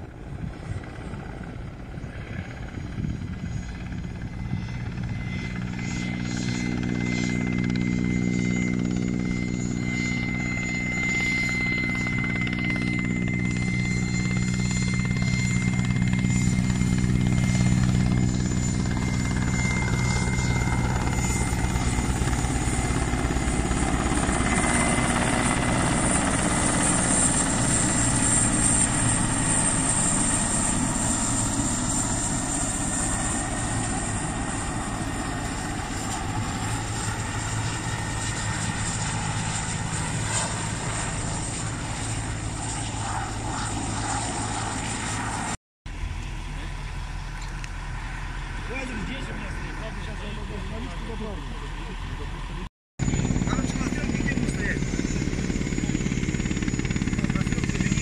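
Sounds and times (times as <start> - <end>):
helicopter engine whine: 0.0 - 58.0
helicopter rotor beat: 0.0 - 58.0.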